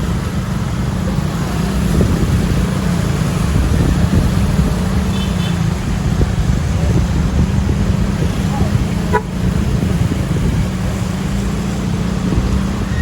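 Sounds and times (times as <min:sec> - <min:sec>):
heavy vehicles passing: 0:00.0 - 0:13.0.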